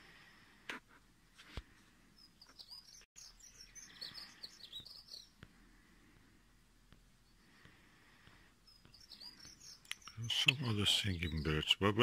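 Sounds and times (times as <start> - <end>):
faint bird chirping: 1.7 - 12.0.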